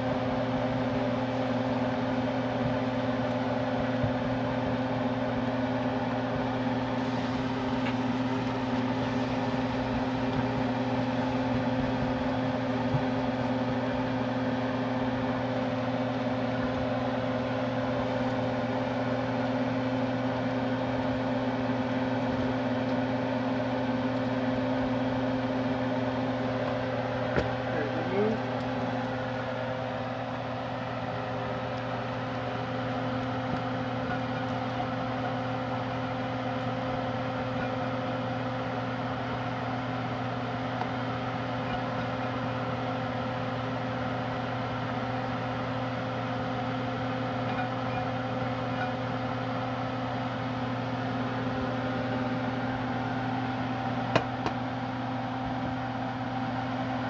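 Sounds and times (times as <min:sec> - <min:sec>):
electric fan motor humming: 0:00.0 - 0:57.0.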